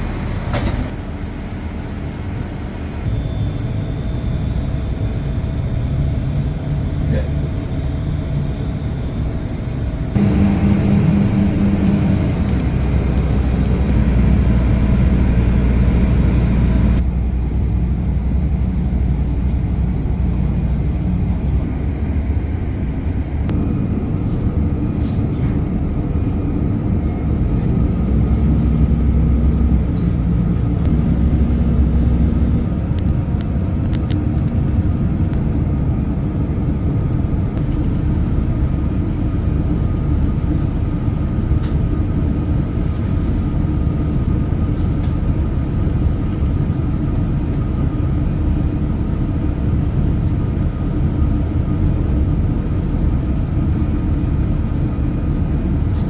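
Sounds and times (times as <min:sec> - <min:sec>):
train rumble: 0:00.0 - 0:56.0.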